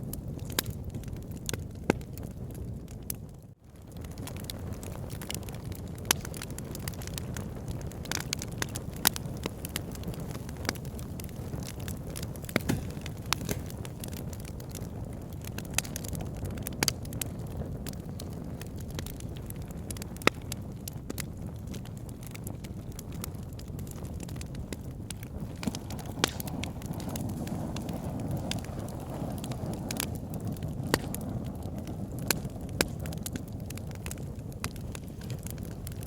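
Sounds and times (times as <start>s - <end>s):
logs crackling and popping: 0.0s - 36.0s
fire flame rushing: 0.1s - 36.0s.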